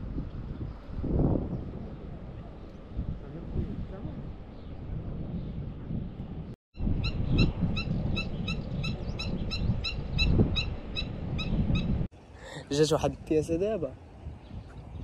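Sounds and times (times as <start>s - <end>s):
wind rumble on microphone: 0.0s - 12.1s, 12.8s - 15.0s.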